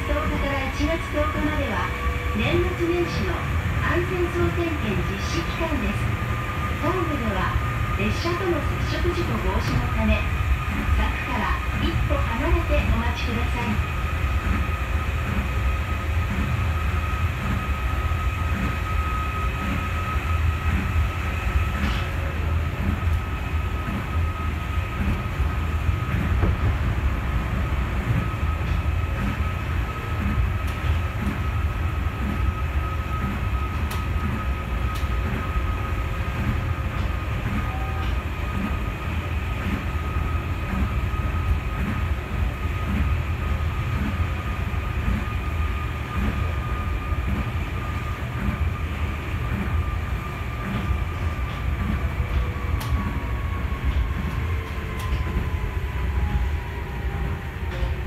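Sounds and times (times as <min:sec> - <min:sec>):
monorail car rumble and whine: 0:00.0 - 0:58.0.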